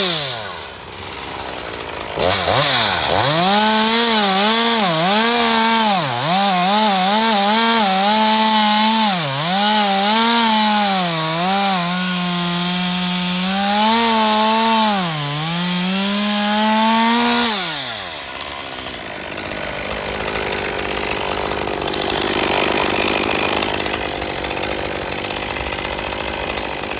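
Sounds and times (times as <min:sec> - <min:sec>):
chainsaw running at high revs: 0:00.0 - 0:26.9.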